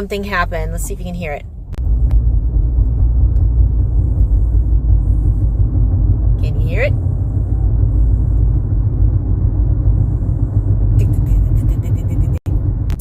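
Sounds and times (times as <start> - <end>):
car rolling on road: 0.0 - 13.0.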